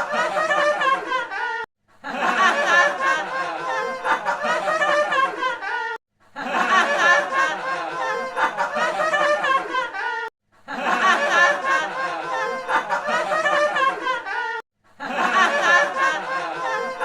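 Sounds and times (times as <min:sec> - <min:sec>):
high voices laughing and chattering: 0:00.0 - 0:17.0.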